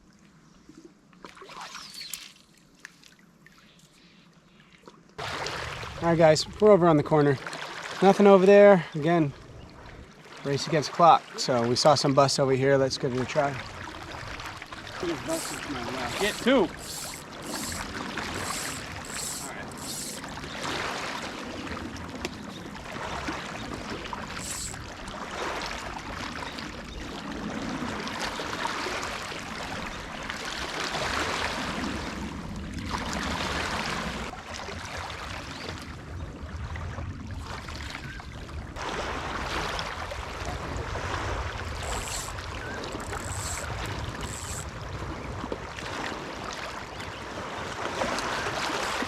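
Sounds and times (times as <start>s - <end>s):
wind and small waves: 0.0s - 49.0s.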